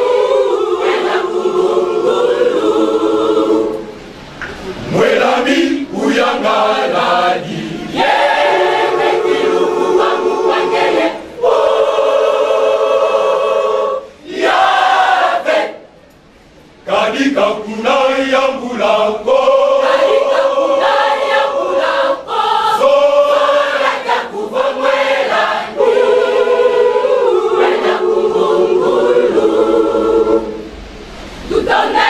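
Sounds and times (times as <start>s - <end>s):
choir singing: 0.0s - 15.9s, 16.8s - 32.0s.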